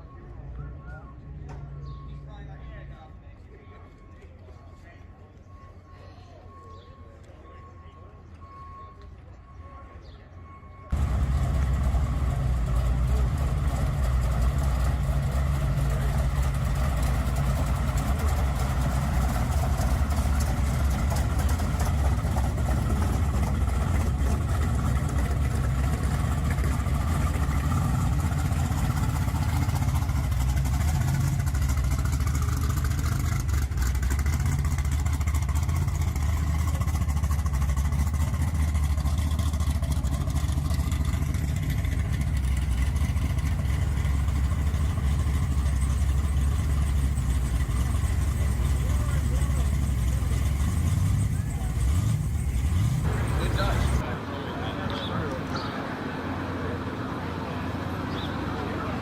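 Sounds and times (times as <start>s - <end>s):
car engine idling: 10.4s - 59.0s.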